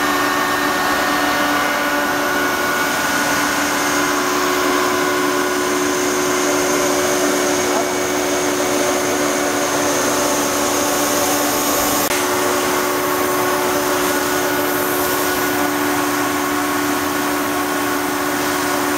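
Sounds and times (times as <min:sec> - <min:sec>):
air compressor hum and hiss: 0:00.0 - 0:18.9.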